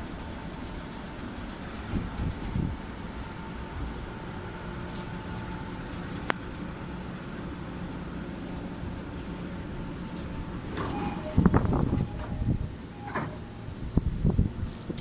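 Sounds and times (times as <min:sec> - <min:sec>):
train carriage hum: 0:00.0 - 0:15.0.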